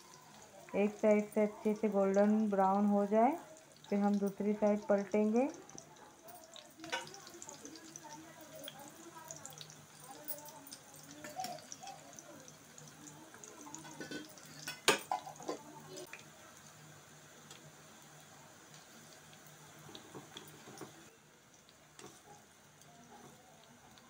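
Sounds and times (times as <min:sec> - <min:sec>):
food frying in oil: 0:00.0 - 0:24.0.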